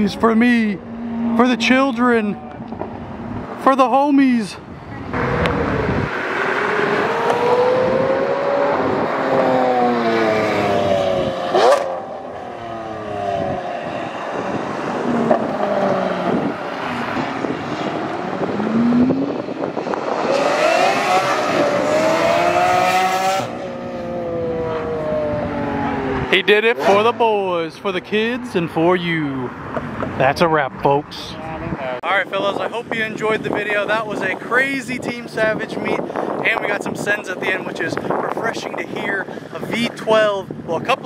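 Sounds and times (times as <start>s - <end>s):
supercar engines at full throttle: 0.0s - 41.0s.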